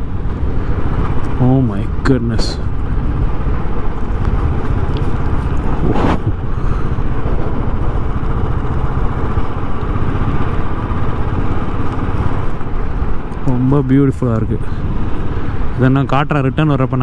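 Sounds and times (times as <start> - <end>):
rising sweep: 0.0 - 14.0
motorcycle engine running: 0.0 - 16.0
wind rushing over microphone: 0.0 - 17.0.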